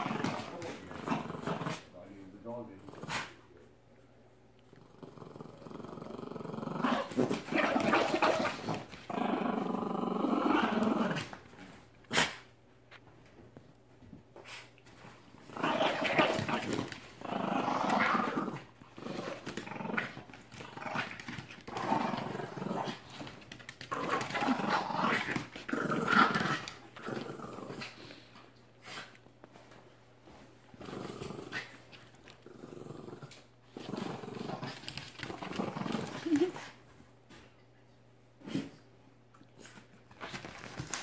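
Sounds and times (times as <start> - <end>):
dog play growling: 0.0 - 3.8, 4.6 - 12.5, 13.3 - 37.4, 38.4 - 41.0.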